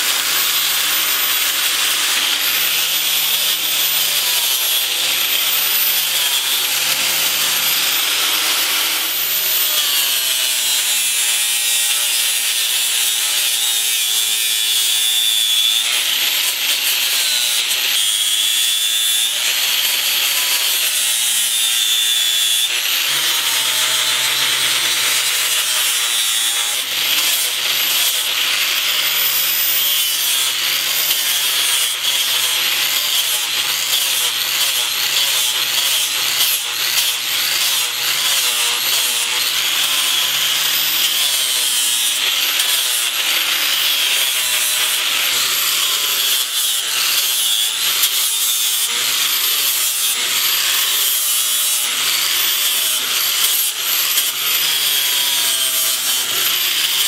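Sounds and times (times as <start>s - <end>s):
angle grinder grinding wood: 0.0s - 57.0s.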